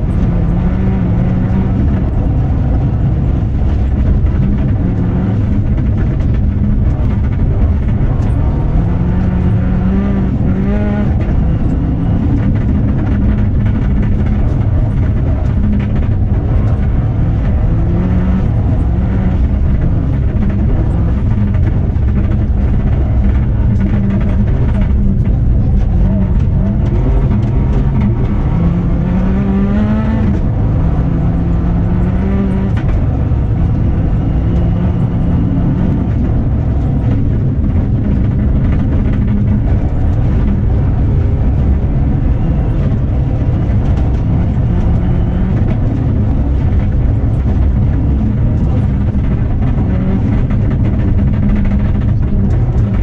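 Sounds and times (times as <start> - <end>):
drivetrain and tyres rumbling: 0.0 - 53.0
rally car engine revving: 0.0 - 53.0.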